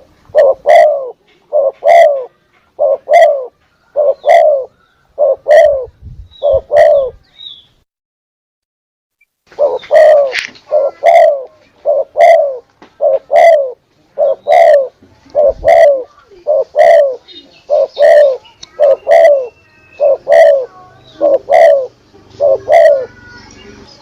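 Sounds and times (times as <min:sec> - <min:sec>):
dove cooing: 0:00.0 - 0:07.2, 0:09.5 - 0:23.4.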